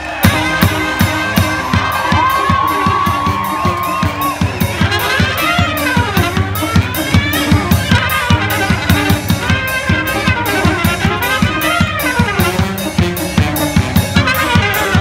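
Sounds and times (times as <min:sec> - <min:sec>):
brass band playing: 0:00.0 - 0:15.0
bass drum beat: 0:00.1 - 0:15.0.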